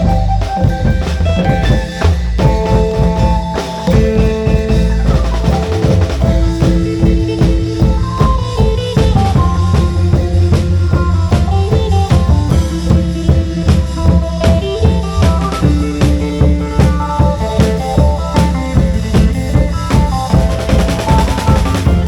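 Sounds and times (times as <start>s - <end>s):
long-drum band music: 0.0s - 22.0s.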